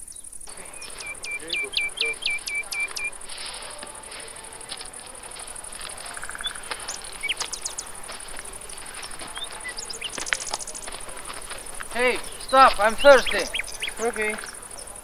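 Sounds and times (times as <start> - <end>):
bird chirps: 0.0 - 3.7, 5.6 - 15.0
insect chirring: 0.0 - 15.0.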